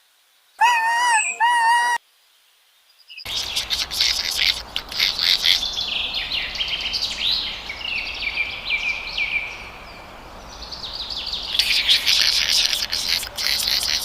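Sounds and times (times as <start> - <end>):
faint outdoor hiss: 0.0 - 14.0
high-pitched chirping calls: 0.6 - 2.0, 3.2 - 14.0.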